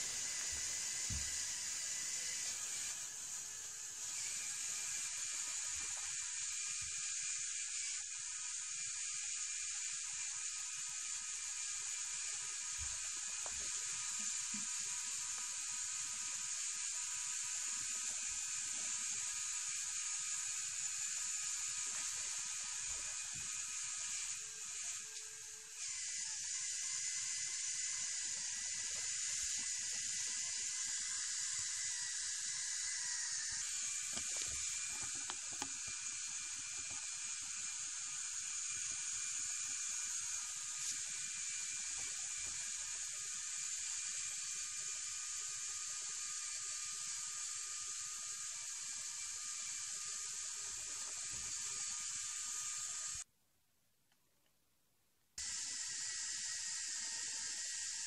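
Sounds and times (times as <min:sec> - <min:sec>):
toy crane motor whining: 0:00.0 - 0:53.2, 0:55.4 - 0:58.0.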